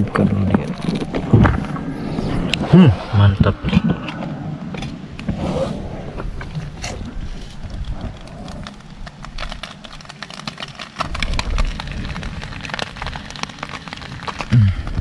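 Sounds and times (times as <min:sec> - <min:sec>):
small fire crackling: 0:00.0 - 0:15.0.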